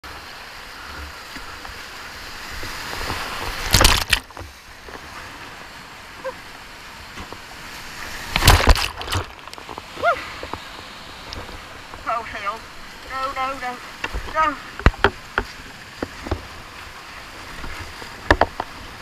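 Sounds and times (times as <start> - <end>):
water surges crashing: 0.0 - 19.0
whitewater rushing: 0.1 - 19.0.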